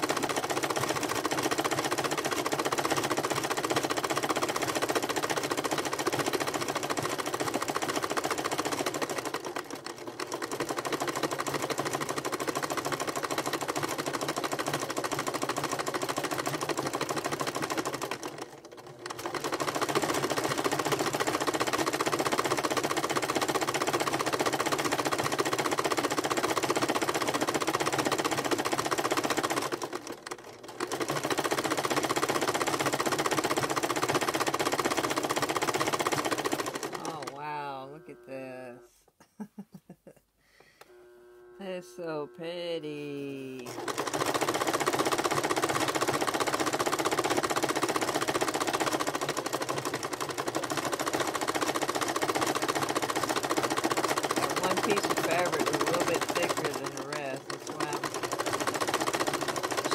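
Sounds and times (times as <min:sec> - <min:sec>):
sewing machine running: 0:00.0 - 0:38.4, 0:40.8 - 0:59.9.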